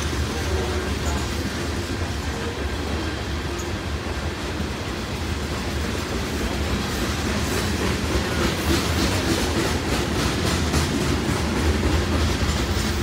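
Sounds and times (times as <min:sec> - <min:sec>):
train wheels rumbling on rail: 0:00.0 - 0:13.0
wheels clickety-clack on rail joints: 0:00.0 - 0:13.0.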